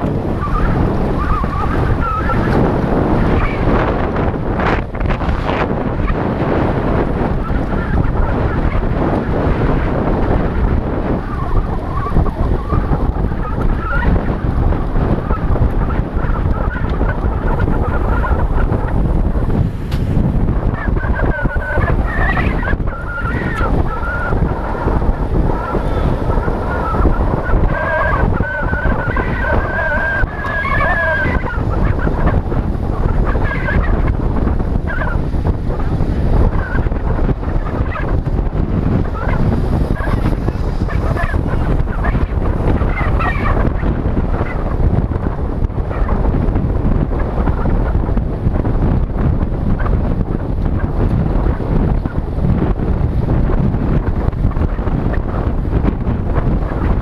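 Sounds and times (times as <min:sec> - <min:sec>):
wind rumble on camera: 0:00.0 - 0:57.0.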